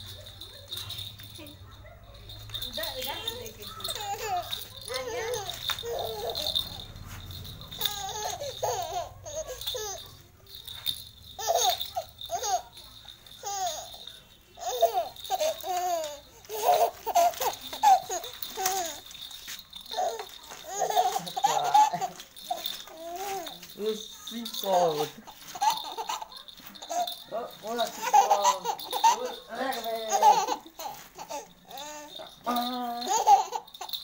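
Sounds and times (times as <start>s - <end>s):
toddler laughing and babbling: 0.2s - 34.0s.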